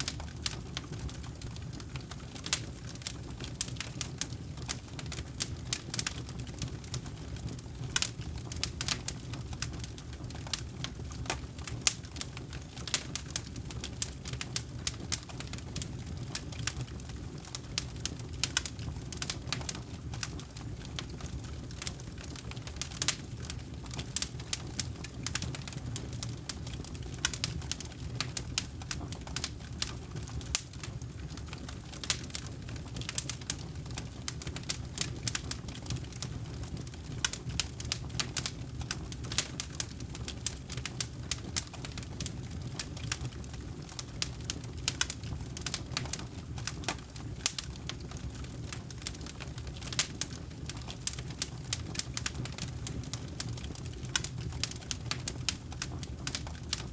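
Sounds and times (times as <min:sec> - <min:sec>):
campfire crackling and popping: 0:00.0 - 0:56.9
low rumble of flame: 0:00.0 - 0:56.9.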